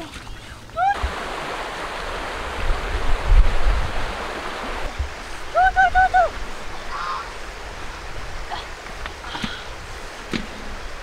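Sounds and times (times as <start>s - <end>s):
steady rushing hiss: 1.0s - 11.0s.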